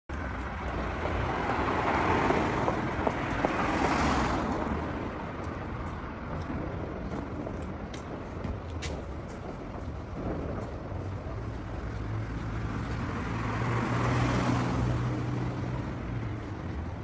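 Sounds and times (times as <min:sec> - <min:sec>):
car passing: 0:00.1 - 0:17.0
low traffic rumble: 0:00.1 - 0:17.0.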